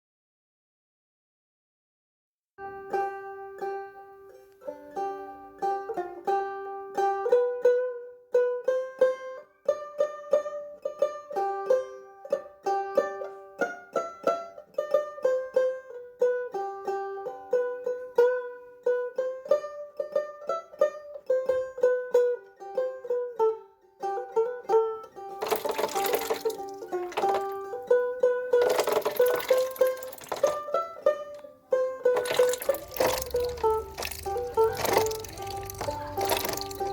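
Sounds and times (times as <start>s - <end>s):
plucked string instrument melody: 2.6s - 36.9s.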